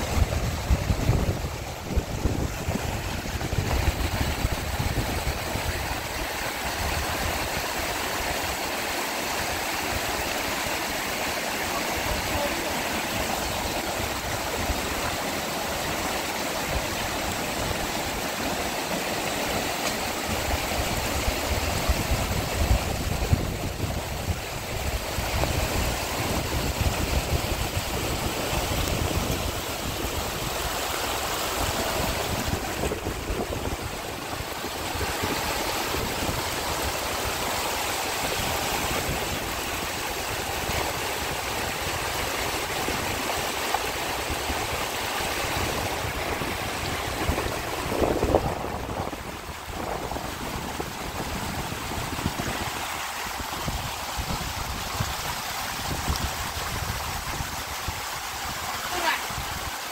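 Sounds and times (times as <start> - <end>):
wind rumbling on microphone: 0.0 - 8.7, 11.7 - 59.9
water rushing: 0.0 - 59.9.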